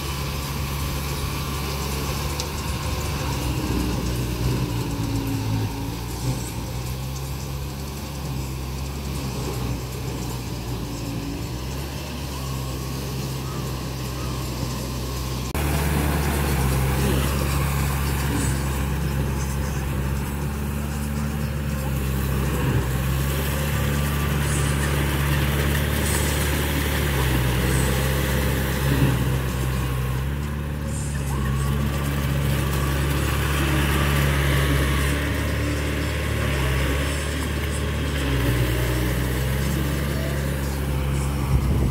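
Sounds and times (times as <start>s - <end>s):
rotary tiller churning mud: 0.0s - 41.9s
tractor diesel engine running: 0.0s - 41.9s.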